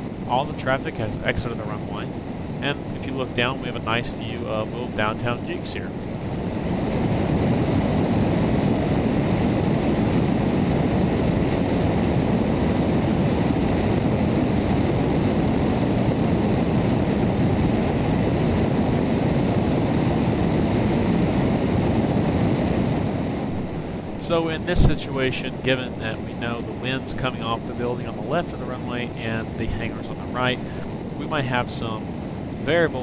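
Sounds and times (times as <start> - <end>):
aircraft engine and propeller: 0.0 - 33.0
wind rushing over camera: 0.0 - 33.0.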